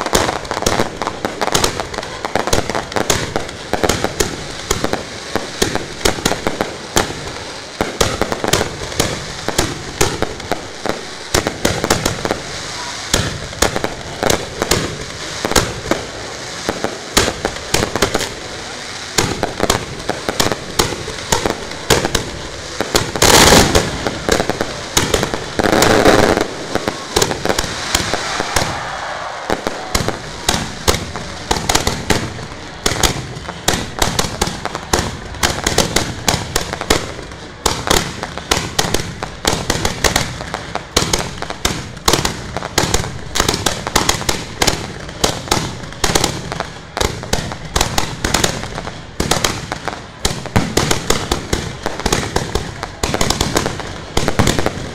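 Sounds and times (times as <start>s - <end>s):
fireworks bangs and crackles: 0.0s - 54.9s
fireworks rushes: 0.0s - 54.9s.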